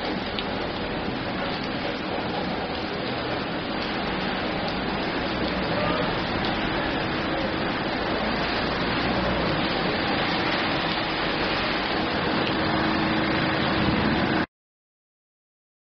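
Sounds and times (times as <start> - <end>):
rain falling into a puddle: 0.0 - 14.5.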